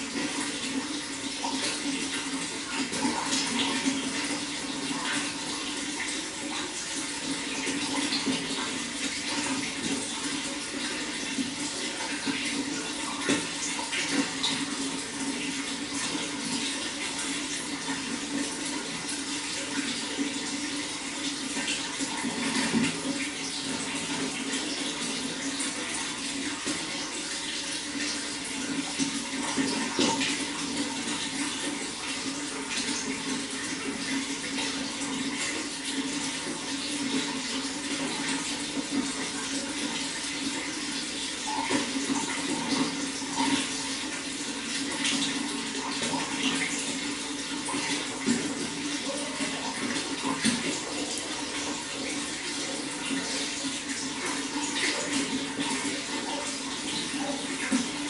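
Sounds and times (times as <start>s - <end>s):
running water with splashes: 0.0s - 58.0s.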